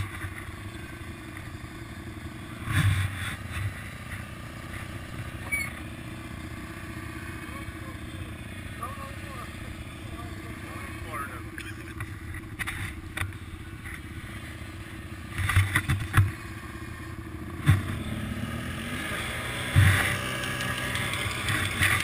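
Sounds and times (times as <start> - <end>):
quad engine running: 0.0 - 22.0.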